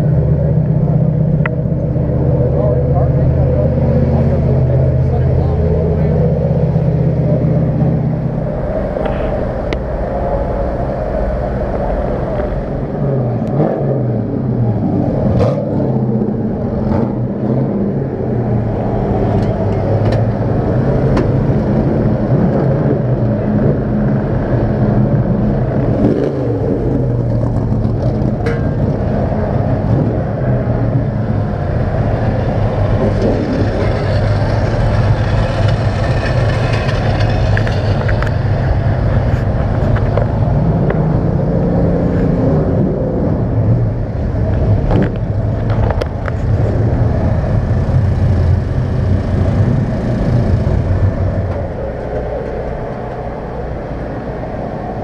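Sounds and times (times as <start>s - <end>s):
engines running: 0.0s - 55.0s.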